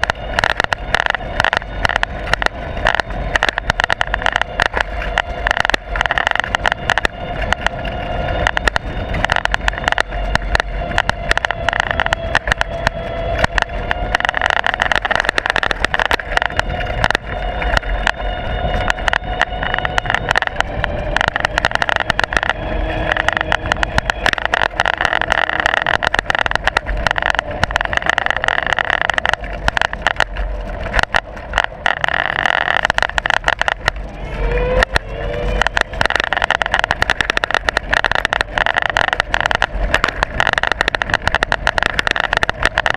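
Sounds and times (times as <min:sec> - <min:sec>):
vehicle ride whine: 0:00.0 - 0:42.9.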